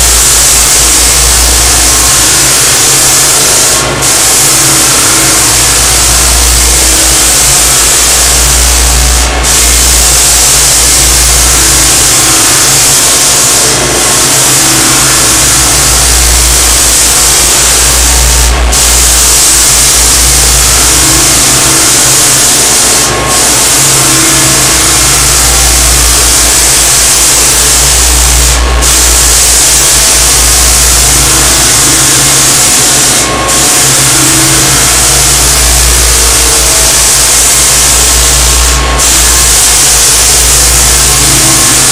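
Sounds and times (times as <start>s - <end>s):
floor sander running on wood: 0.0s - 41.9s.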